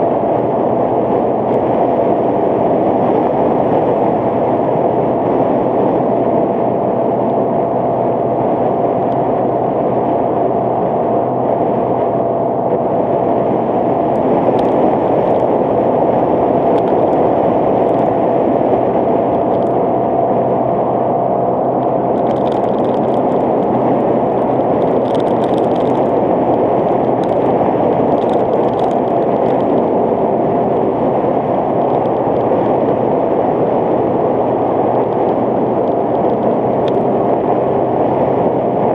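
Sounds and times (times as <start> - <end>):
thin steady whine: 0.0 - 38.9
wind and road noise: 0.0 - 38.9.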